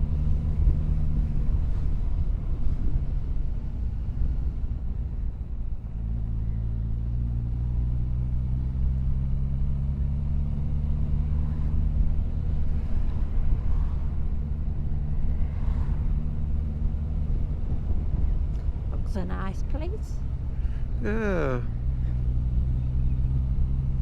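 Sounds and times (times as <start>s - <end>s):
low road rumble: 0.0s - 24.0s.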